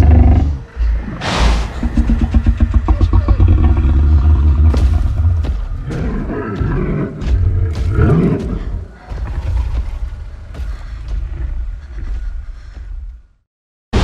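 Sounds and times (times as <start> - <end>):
monster growling and grunting: 0.0 - 12.2
heavy low rumble: 0.0 - 13.4.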